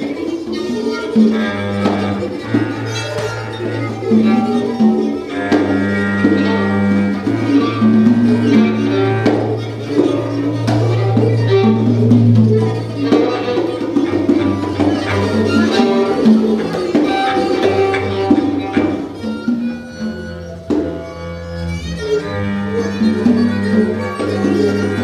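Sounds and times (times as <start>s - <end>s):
conga drum strikes: 0.0s - 21.0s
improvised ensemble music: 0.0s - 25.0s.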